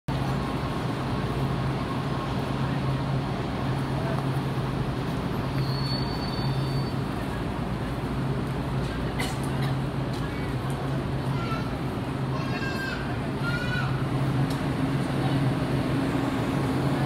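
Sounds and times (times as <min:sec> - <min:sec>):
noisy station background: 0:00.1 - 0:17.0
train low hum: 0:00.1 - 0:17.0.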